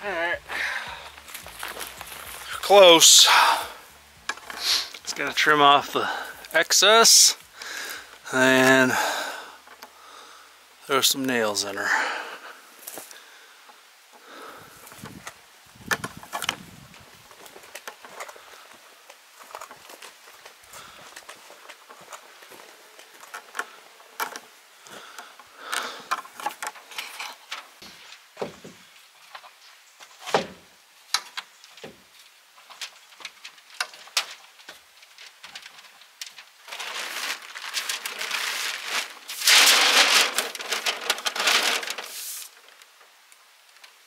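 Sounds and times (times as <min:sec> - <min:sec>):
house wrap crinkling: 0:00.1 - 0:09.9, 0:14.3 - 0:28.4, 0:32.0 - 0:44.0.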